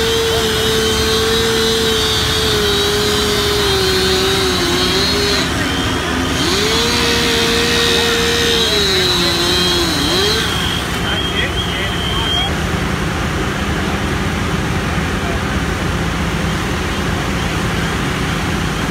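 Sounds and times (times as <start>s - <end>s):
loud mechanical drone with whine: 0.0s - 18.9s.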